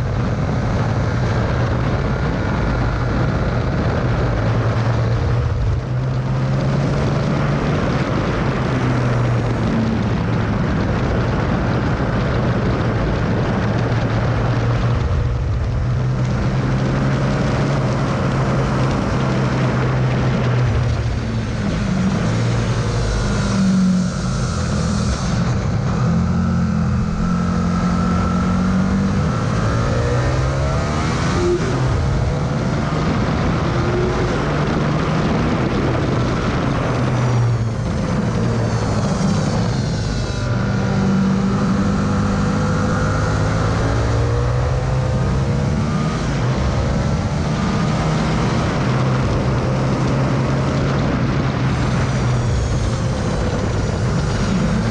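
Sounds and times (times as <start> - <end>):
motorcycle engine accelerating: 0.0 - 54.9
wind rush on camera: 0.0 - 54.9.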